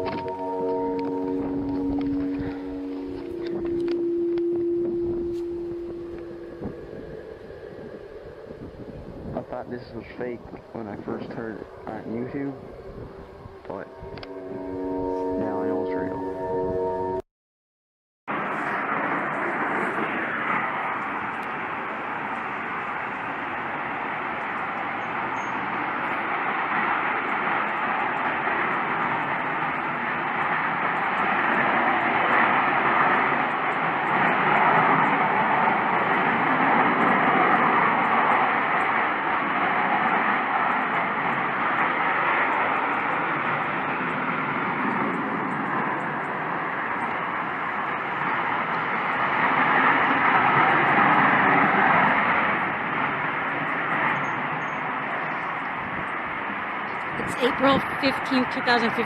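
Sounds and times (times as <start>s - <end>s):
loud rushing roar from the sky: 0.0s - 17.2s, 18.3s - 59.0s.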